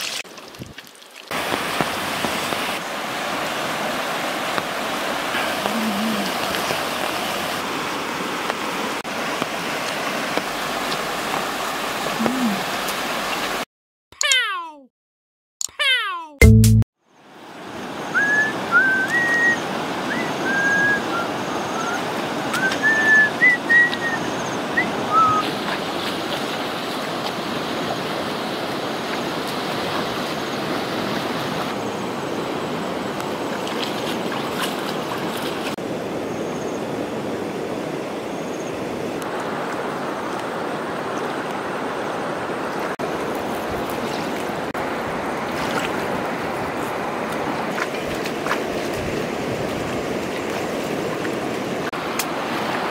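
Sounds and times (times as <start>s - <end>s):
stream water rushing: 0.0s - 13.7s, 17.3s - 52.9s.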